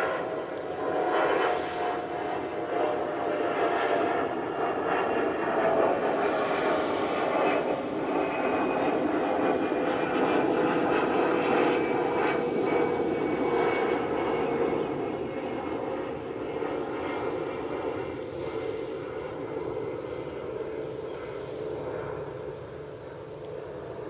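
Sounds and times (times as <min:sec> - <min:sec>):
airplane engine drone: 0:00.0 - 0:24.0.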